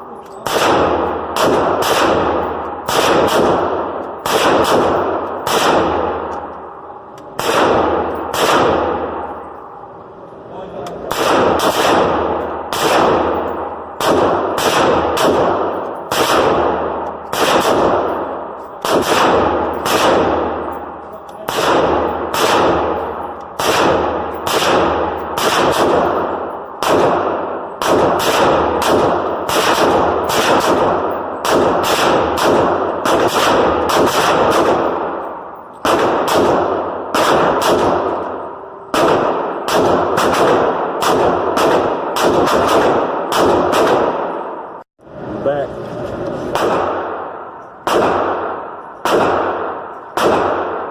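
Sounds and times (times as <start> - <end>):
rifle shots with ringing echo: 0.0 - 9.9, 11.0 - 44.8, 46.5 - 50.9.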